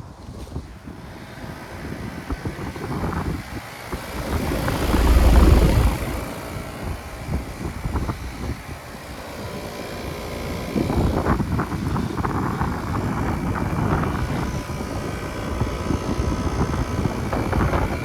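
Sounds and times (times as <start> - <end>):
fan whooshing: 0.0 - 18.0
compressor hum: 3.2 - 18.0.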